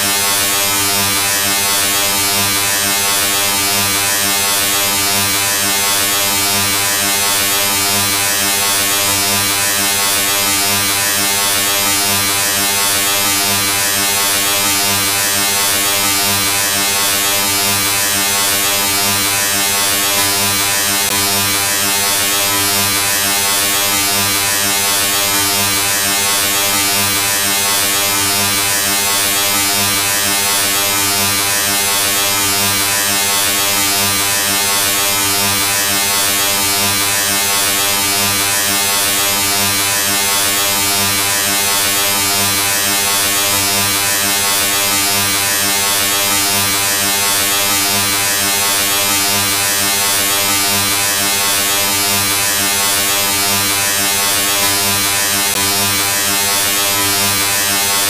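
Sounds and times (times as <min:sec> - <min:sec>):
steady buzz with hiss: 0:00.0 - 0:58.0.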